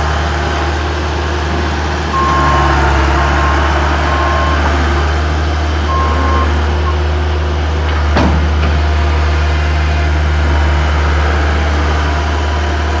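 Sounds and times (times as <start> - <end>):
diesel engine low drone: 0.0 - 13.0.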